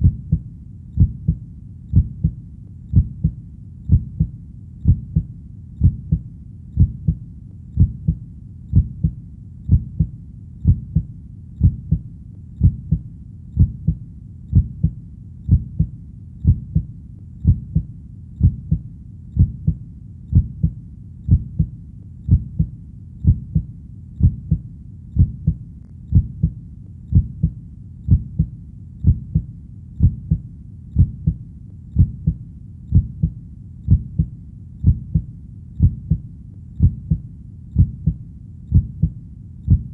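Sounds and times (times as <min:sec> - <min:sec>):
faint low background rumble: 0:00.0 - 0:39.9
heartbeat thumps: 0:00.0 - 0:39.9.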